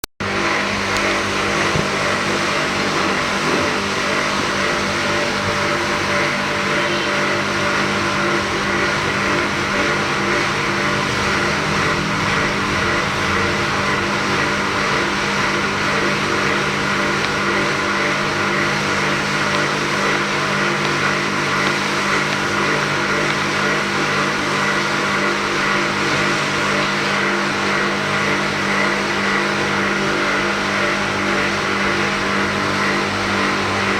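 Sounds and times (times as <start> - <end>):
pressure washer running: 0.2 - 33.9.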